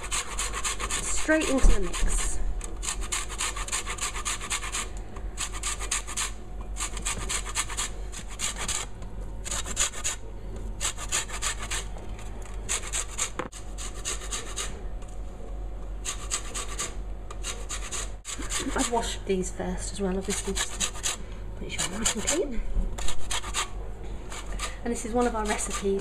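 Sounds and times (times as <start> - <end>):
lemon peel rasping on grater: 0.0 - 10.2, 10.8 - 14.8, 16.0 - 19.2, 20.2 - 23.7, 24.3 - 26.0.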